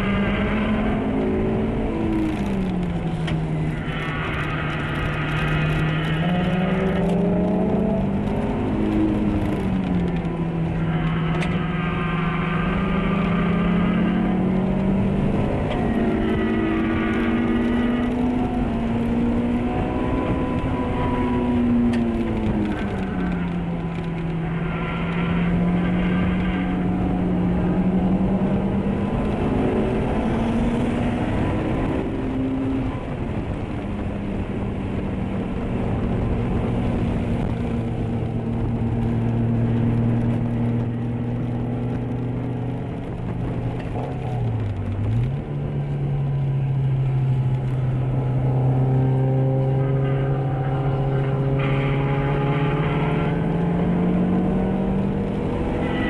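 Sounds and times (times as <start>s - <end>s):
car engine revving in cabin: 0.0s - 56.0s
tyre and road noise: 0.0s - 56.0s.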